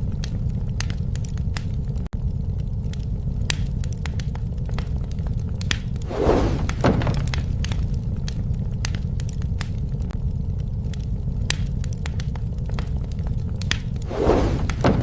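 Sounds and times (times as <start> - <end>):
bonfire crackling and popping: 0.0 - 15.0
sharp crack of fire: 0.0 - 15.0.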